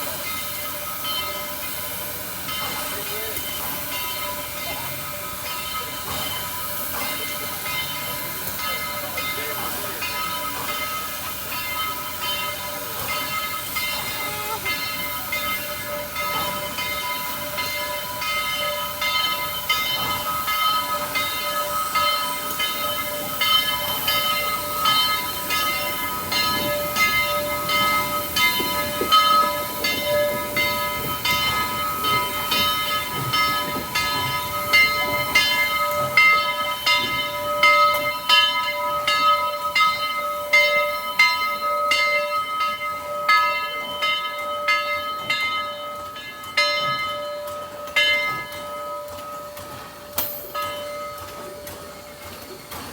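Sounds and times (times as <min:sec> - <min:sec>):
wheels clicking over rail joints: 0:00.0 - 0:52.9.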